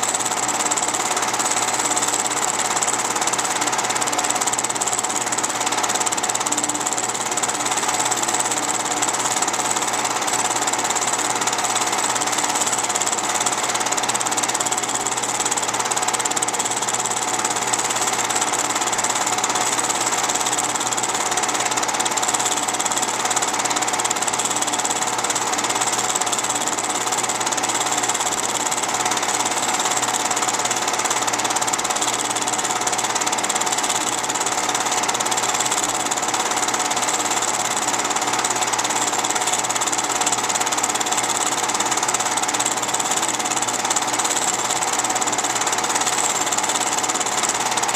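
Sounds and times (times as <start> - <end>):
film projector clattering: 0.0 - 47.9.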